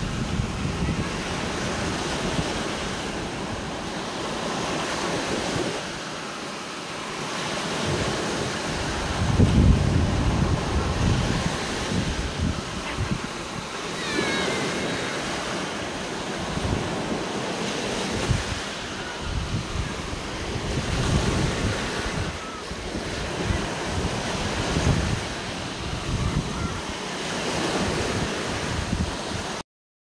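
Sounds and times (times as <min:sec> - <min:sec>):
wind buffeting microphone: 0:00.0 - 0:06.1, 0:07.2 - 0:29.6
surf washing up sand: 0:00.0 - 0:29.6.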